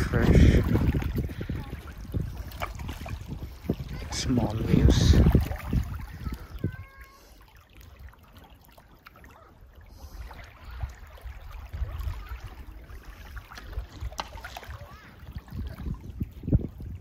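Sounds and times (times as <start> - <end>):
small waves lapping on pebbles: 0.0 - 17.0.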